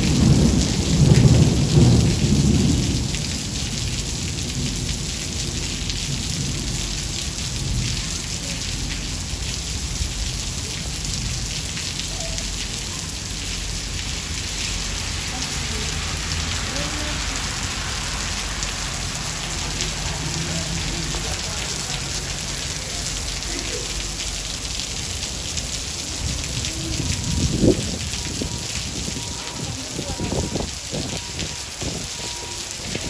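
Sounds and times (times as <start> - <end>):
heavy rain pattering: 0.0 - 33.0.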